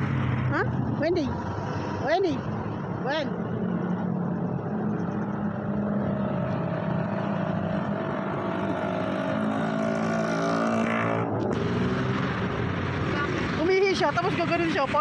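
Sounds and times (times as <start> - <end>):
vehicle engine speeding up: 0.0 - 15.0.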